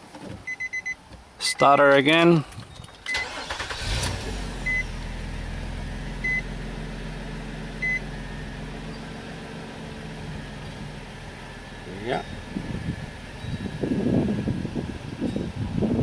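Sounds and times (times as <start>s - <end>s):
car engine idling: 2.0s - 16.0s.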